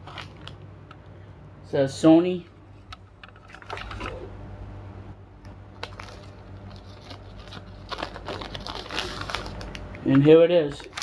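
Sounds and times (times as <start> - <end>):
steady low electrical hum: 0.0 - 11.0.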